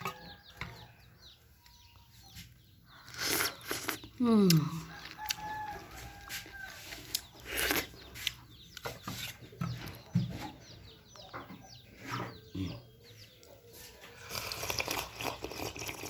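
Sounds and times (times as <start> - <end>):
chickens clucking: 0.0 - 4.2, 4.8 - 14.3
small birds chirping: 0.0 - 16.0.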